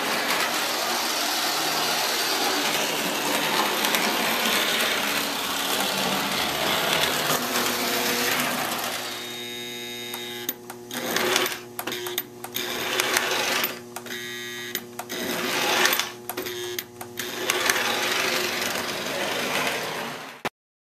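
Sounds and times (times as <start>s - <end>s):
toy trolley motor whirring: 0.0s - 9.4s, 10.4s - 20.4s
steady hum: 0.0s - 19.9s.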